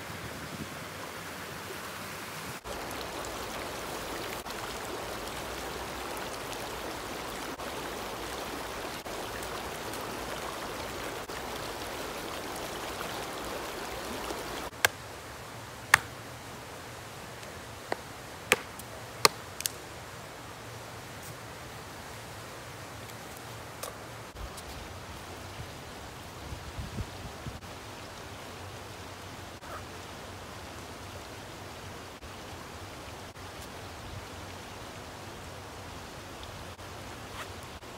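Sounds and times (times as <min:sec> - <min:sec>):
running water rushing: 0:00.0 - 0:37.9.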